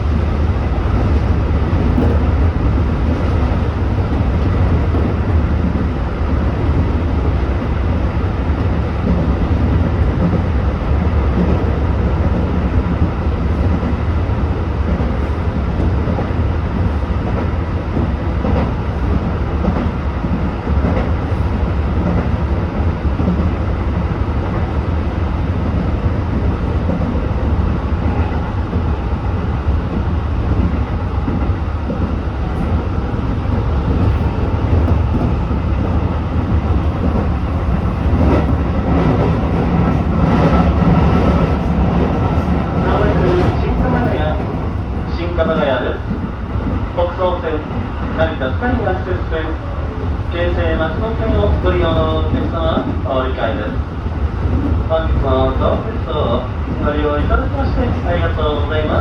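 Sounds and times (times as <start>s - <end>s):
train rumble on rails: 0.0s - 59.0s.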